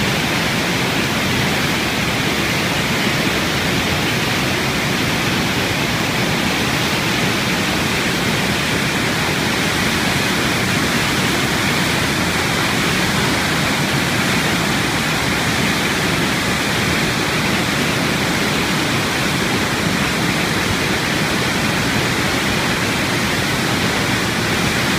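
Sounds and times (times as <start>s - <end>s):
waterfall rushing over rock: 0.0s - 24.9s.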